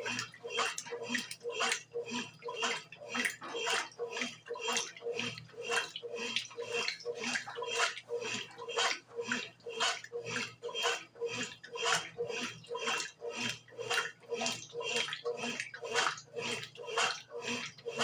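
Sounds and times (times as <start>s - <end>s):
washing machine motor hum: 0.0s - 18.0s
water and laundry sloshing: 0.0s - 18.0s.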